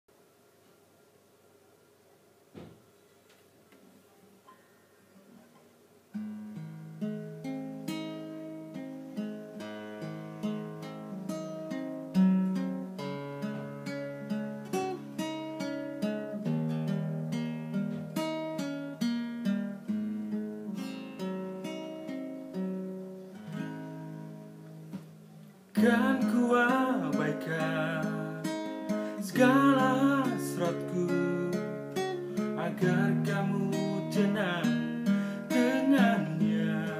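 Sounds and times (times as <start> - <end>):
classical guitar solo: 5.3 - 36.9.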